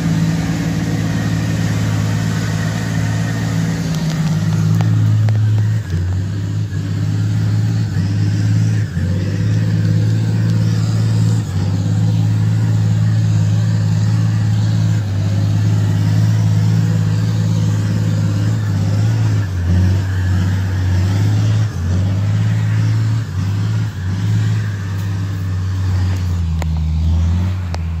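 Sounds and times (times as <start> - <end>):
truck engine straining: 0.0 - 28.0.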